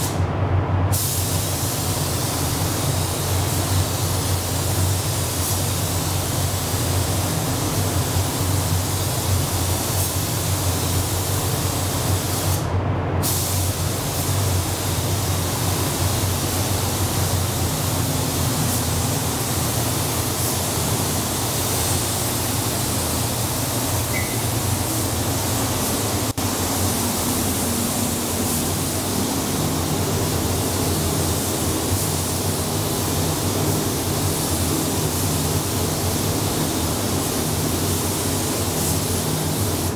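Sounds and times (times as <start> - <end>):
spray gun air hiss: 0.0 - 0.2, 0.9 - 39.9
ventilation fans humming: 0.0 - 39.9.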